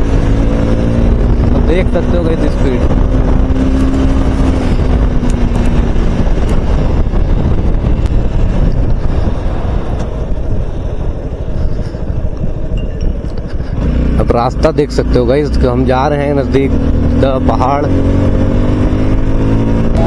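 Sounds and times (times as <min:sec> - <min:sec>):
engine hum: 0:00.0 - 0:20.0
wind rush on microphone: 0:00.0 - 0:20.0.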